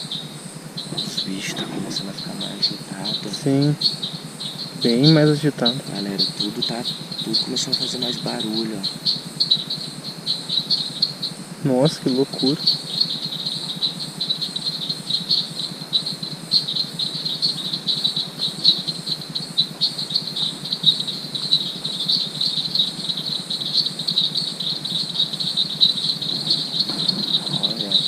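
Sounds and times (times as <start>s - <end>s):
insects and frogs trilling: 0.0s - 28.0s
low pulsing drone: 0.0s - 28.0s.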